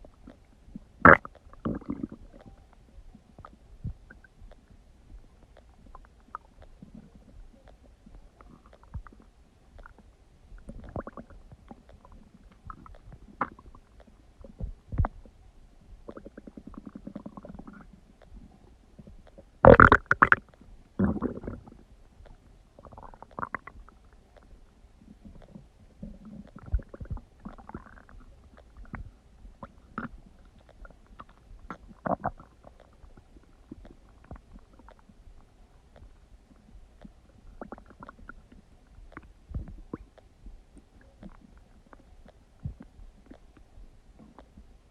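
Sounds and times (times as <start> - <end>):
stomach gurgling and growling: 0.0 - 44.9.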